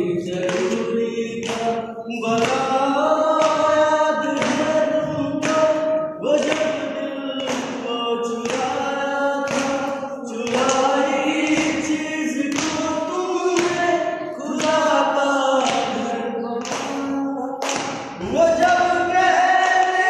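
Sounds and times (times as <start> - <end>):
group singing without instruments: 0.0 - 20.0
struck beat: 0.4 - 14.9, 16.6 - 20.0.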